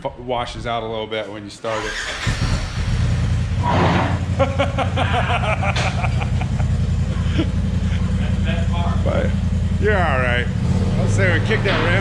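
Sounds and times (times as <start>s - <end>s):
engine idling: 1.7s - 12.0s.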